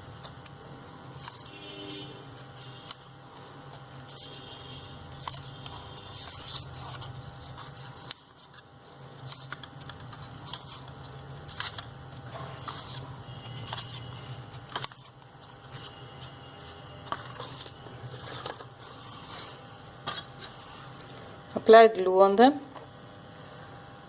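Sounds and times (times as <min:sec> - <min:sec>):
paper rustling and folding: 0:00.1 - 0:21.2.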